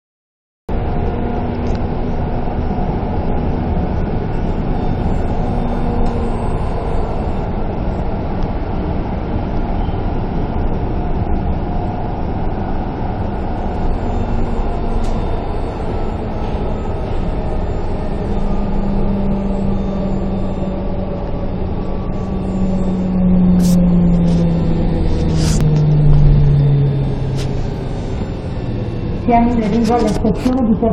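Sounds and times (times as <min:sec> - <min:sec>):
train motor whine: 0:00.7 - 0:30.9
train rumbling: 0:00.7 - 0:30.9.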